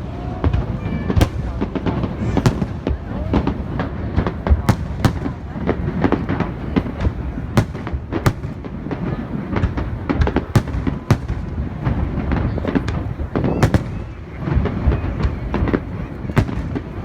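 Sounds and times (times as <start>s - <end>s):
fireworks bursting: 0.0s - 17.0s
low rumble of explosions: 0.0s - 17.0s.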